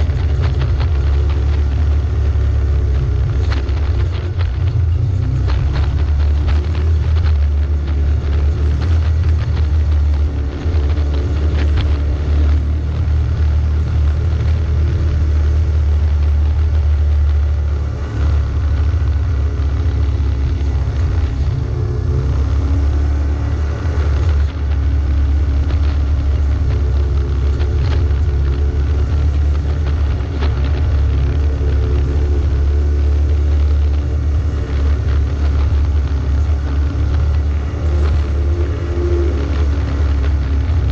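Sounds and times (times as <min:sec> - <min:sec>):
off-road vehicle engine running: 0:00.0 - 0:40.9.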